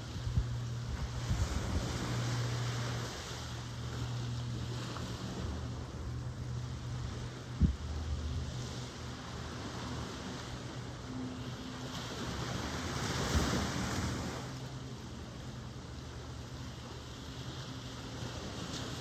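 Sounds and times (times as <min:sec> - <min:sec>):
low surf rumble: 0:00.0 - 0:19.0
wave breaking and washing in: 0:00.0 - 0:19.0.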